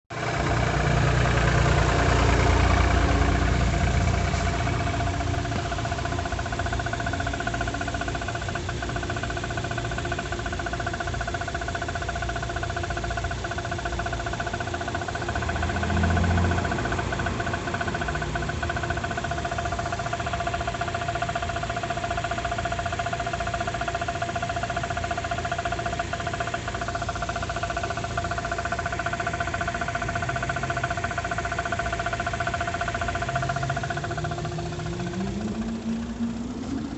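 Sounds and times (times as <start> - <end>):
car engine idling: 0.1 - 36.9
engine knock: 0.1 - 36.9.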